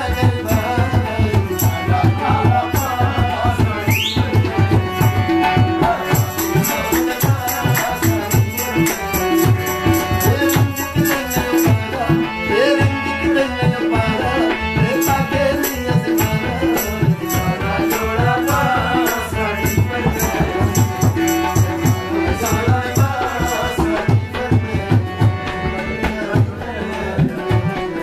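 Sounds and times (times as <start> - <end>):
hand drum rhythm: 0.0 - 28.0
harmonium: 0.0 - 28.0
man singing: 0.0 - 28.0.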